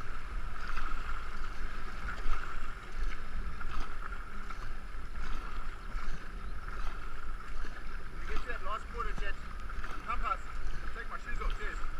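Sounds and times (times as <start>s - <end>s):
paddle splash: 0.0s - 11.9s
water rushing past hull: 0.0s - 11.9s.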